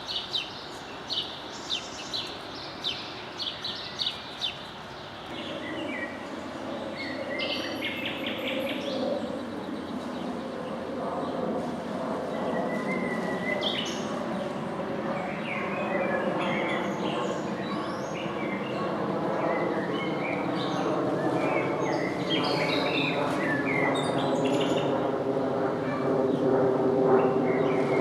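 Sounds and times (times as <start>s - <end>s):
songbirds chirping: 0.0s - 25.1s.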